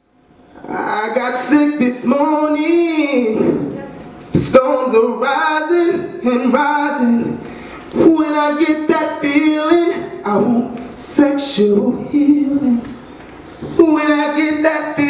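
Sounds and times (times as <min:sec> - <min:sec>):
man singing unaccompanied: 0:00.6 - 0:03.6, 0:04.4 - 0:13.0, 0:13.6 - 0:15.0.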